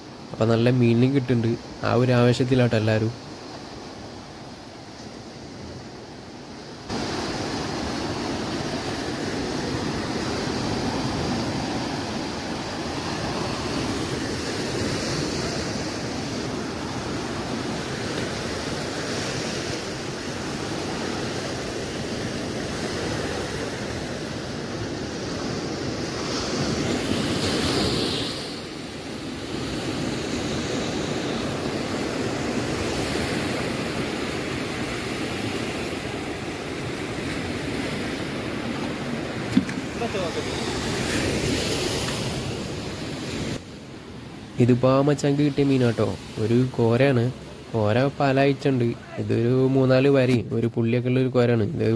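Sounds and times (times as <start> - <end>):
waves breaking on beach: 0.0 - 51.9.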